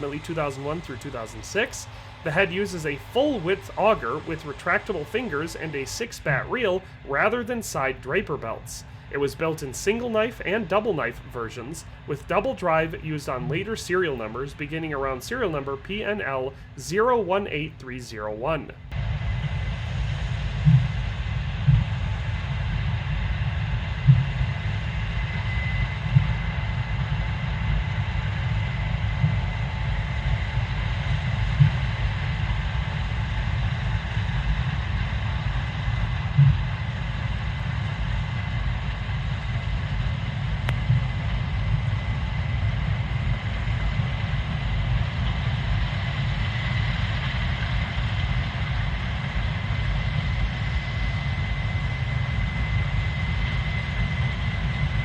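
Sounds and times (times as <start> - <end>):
combine harvester rumbling: 0.0 - 55.0
constant thin whine: 0.0 - 55.0.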